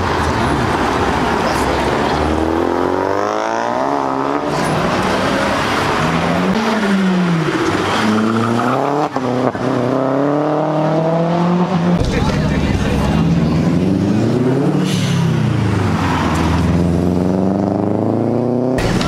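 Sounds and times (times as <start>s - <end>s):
cars accelerating hard: 0.0s - 19.0s.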